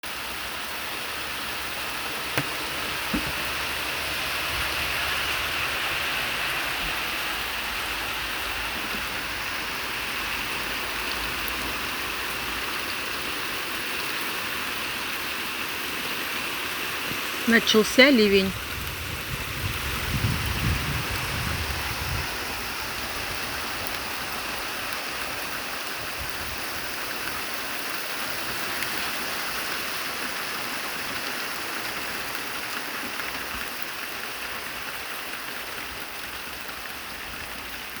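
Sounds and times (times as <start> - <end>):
heavy rain pouring: 0.0 - 38.0.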